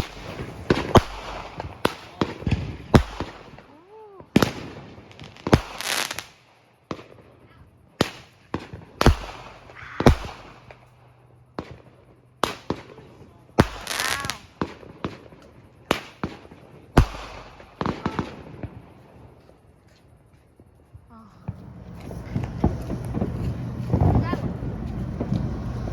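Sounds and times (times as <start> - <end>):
fireworks bangs: 0.0 - 19.8, 20.5 - 25.9
fireworks crackling: 0.0 - 25.9.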